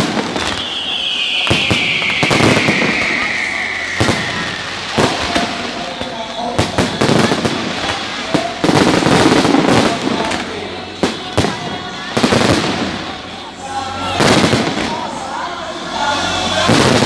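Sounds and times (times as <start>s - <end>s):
fireworks bangs: 0.0s - 13.4s, 14.1s - 15.2s, 16.4s - 17.0s.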